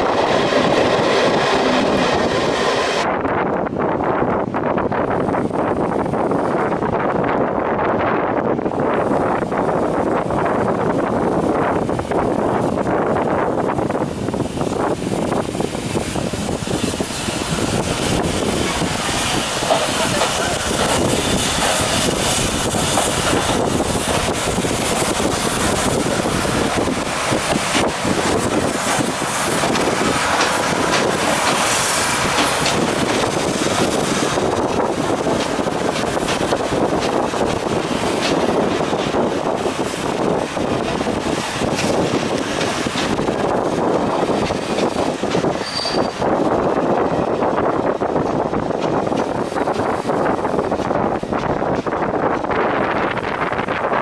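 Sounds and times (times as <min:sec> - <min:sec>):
wind buffeting microphone: 0:00.0 - 0:54.0
steam locomotive running slowly: 0:08.7 - 0:54.0.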